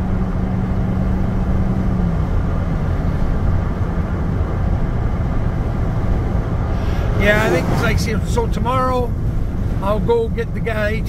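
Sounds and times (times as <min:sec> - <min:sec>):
road noise inside truck cab: 0:00.0 - 0:11.0.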